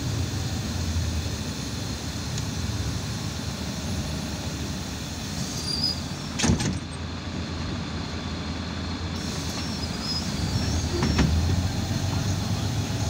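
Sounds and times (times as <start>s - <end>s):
bus cabin rumble: 0.0s - 13.0s.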